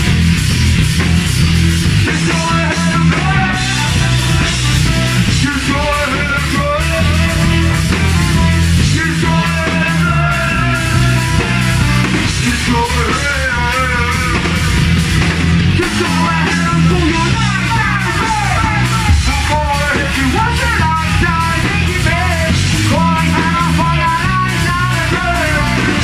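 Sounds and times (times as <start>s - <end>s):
live ska-punk band: 0.0s - 26.0s
person singing: 2.0s - 15.0s, 15.7s - 26.0s.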